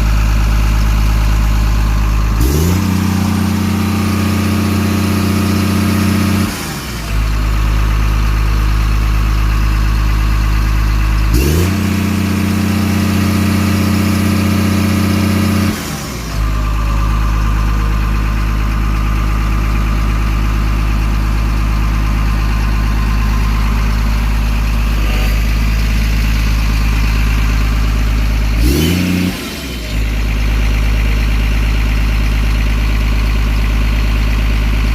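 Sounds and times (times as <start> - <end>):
excavator diesel engine revving: 0.0 - 34.9.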